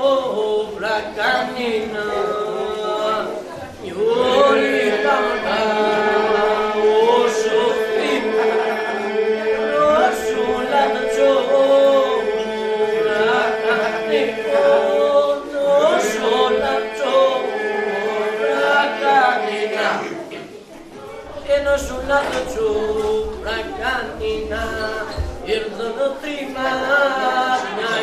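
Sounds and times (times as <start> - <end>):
held vocal drone: 0.0 - 28.0
male voices singing polyphonic song: 0.0 - 28.0
voice singing bending melody: 0.0 - 28.0.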